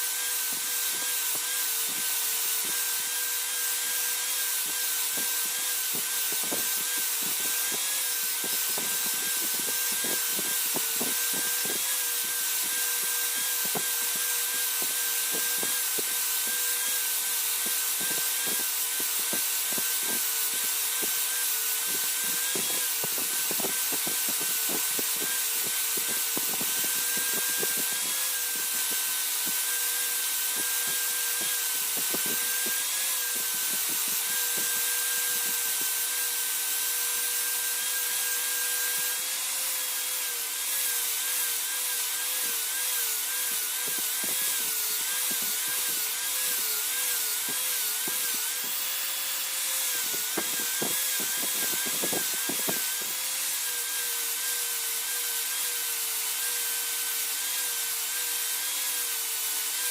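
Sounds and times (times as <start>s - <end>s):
hiss: 0.0s - 59.7s
electric power tool running: 0.0s - 59.9s.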